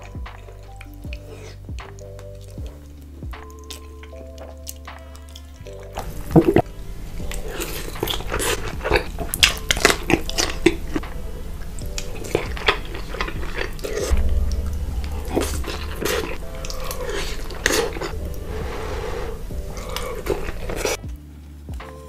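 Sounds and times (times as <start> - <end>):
mouth smacks and clicks: 0.0 - 18.5
wet chewing and slurping: 0.0 - 21.8.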